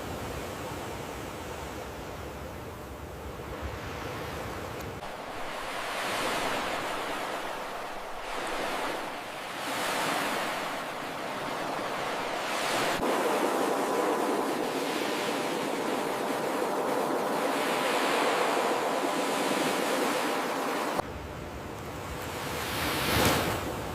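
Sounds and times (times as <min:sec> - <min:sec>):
waves breaking on shore: 0:03.3 - 0:21.0, 0:21.9 - 0:23.9.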